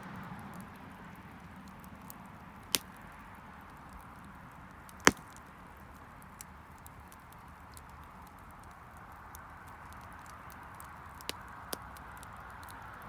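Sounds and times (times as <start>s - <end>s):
bonfire crackling: 0.0s - 13.0s
sharp pops of fire: 0.3s - 13.0s.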